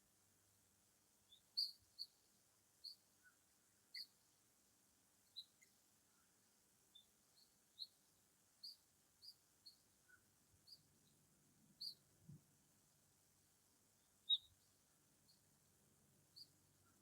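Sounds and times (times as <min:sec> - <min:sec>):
small bird chirping: 0:01.2 - 0:04.3, 0:05.2 - 0:12.5, 0:13.4 - 0:17.0.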